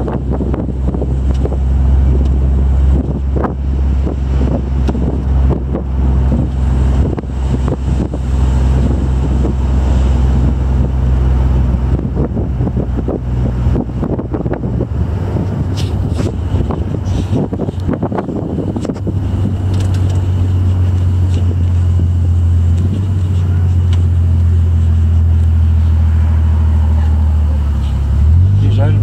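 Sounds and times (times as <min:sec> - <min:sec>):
car engine drone: 0:00.0 - 0:29.0
road noise: 0:00.0 - 0:29.0
wind buffeting microphone: 0:00.0 - 0:29.0.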